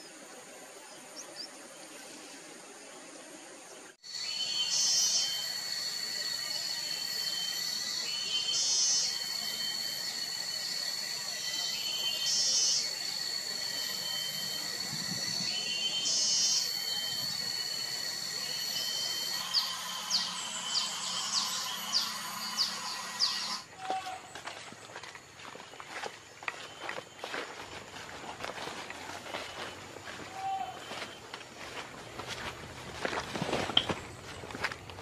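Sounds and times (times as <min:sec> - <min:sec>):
high-pitched insect whine: 0:00.0 - 0:34.9.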